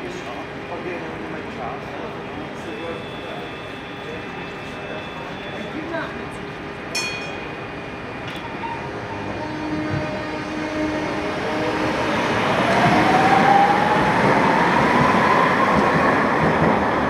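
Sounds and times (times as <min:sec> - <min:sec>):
tram motors whining: 0:02.3 - 0:17.0.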